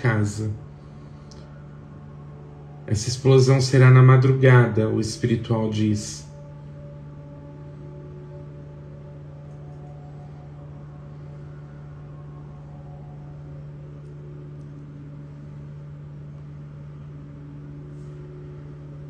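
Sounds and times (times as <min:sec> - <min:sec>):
low drone with held tones: 0:00.0 - 0:19.0.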